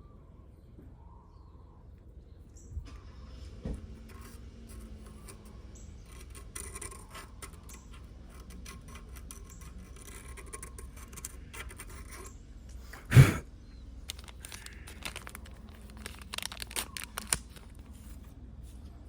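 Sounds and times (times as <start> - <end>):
faint scratching: 2.8 - 13.1, 13.8 - 19.0.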